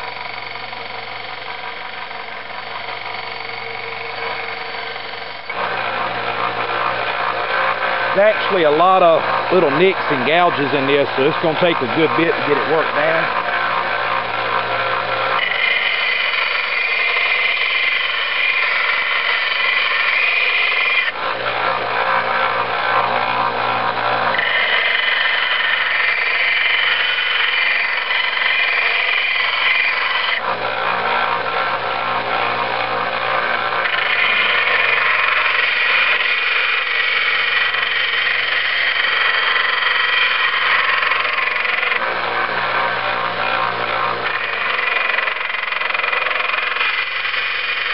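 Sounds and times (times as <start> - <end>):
belt sander motor hum: 0.0 - 47.9
blade grinding on sander belt: 0.0 - 47.9.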